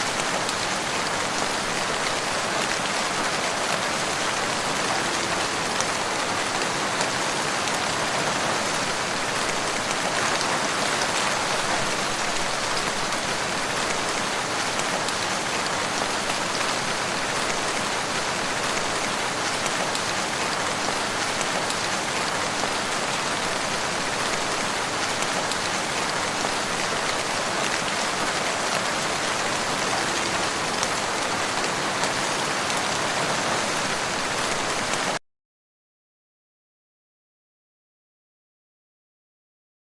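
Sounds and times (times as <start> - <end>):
rain pattering: 0.0 - 35.2.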